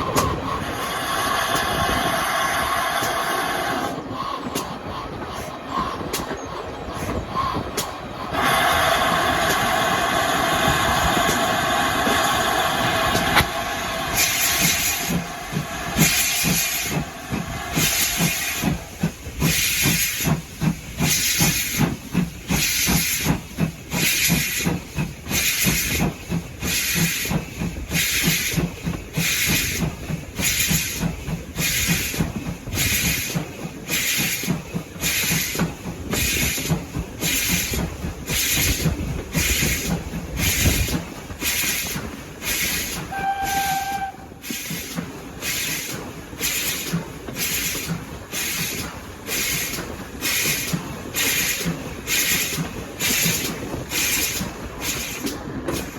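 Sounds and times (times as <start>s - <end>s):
low rumble of train: 0.0s - 55.9s
steam locomotive chuffing: 0.0s - 55.9s.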